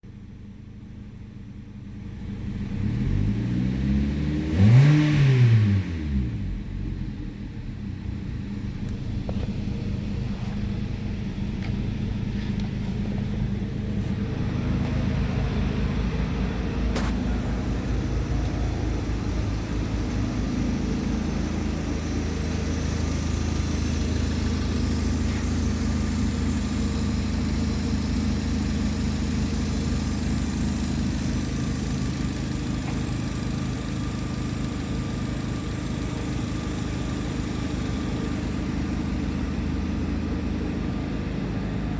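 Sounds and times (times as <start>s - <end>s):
car engine idling: 0.0s - 4.9s, 5.9s - 41.9s.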